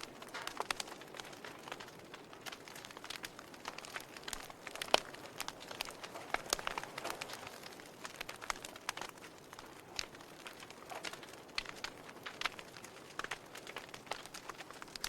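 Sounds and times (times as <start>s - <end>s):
burning logs crackling and popping: 0.0s - 15.0s.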